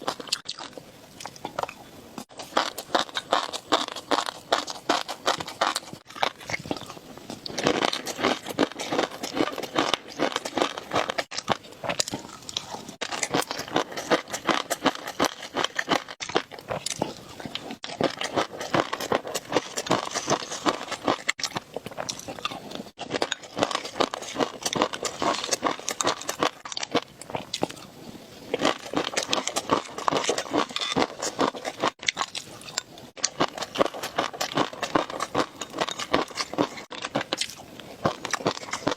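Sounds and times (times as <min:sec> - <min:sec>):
wet chewing: 0:00.0 - 0:27.9, 0:28.5 - 0:38.9.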